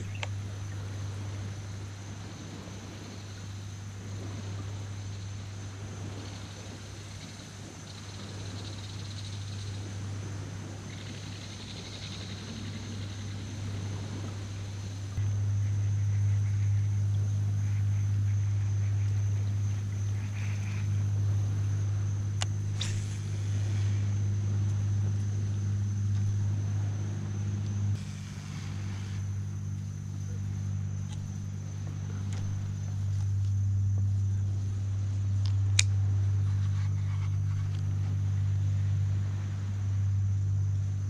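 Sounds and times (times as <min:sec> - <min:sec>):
faint high whine: 0:00.0 - 0:41.0
low motor hum: 0:00.0 - 0:41.0.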